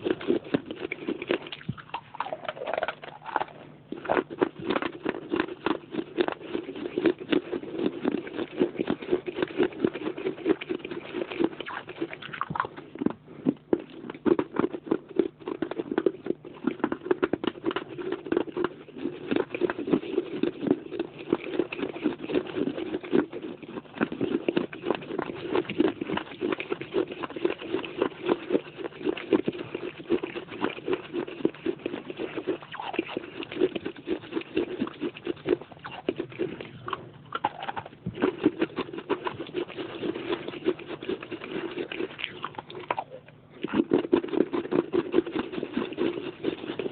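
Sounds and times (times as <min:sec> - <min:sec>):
crunching clay pieces in mouth: 0:00.0 - 0:46.9.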